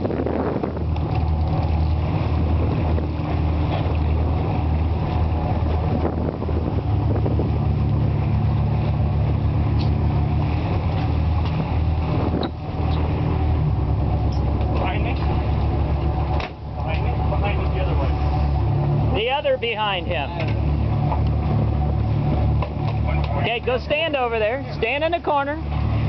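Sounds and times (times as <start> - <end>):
boat engines humming: 0.0 - 26.0.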